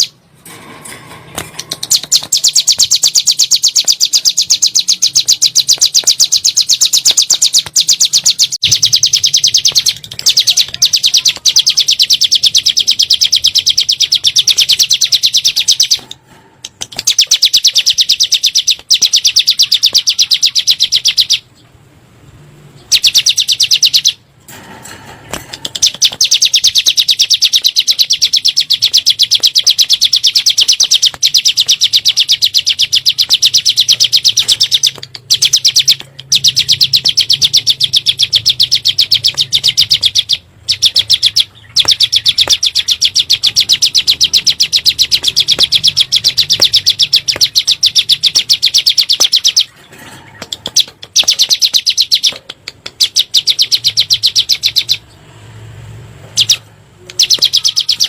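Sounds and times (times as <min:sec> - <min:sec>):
bird singing rapid high trill: 0:00.0 - 0:00.2, 0:01.6 - 0:16.2, 0:17.0 - 0:21.6, 0:22.8 - 0:24.3, 0:25.7 - 0:49.8, 0:50.4 - 0:52.4, 0:53.0 - 0:55.2, 0:56.3 - 0:58.0.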